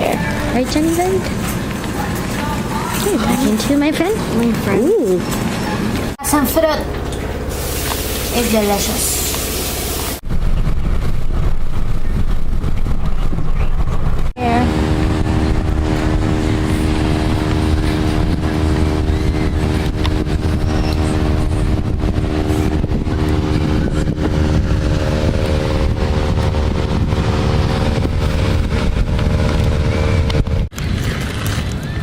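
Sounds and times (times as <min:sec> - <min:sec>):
car engine drone: 0:00.0 - 0:32.0
low road rumble: 0:00.0 - 0:32.0.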